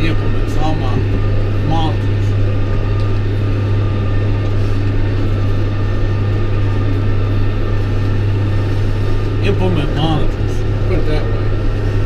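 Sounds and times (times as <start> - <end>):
faint high whine: 0.0 - 12.0
tractor engine droning under load: 0.0 - 12.0.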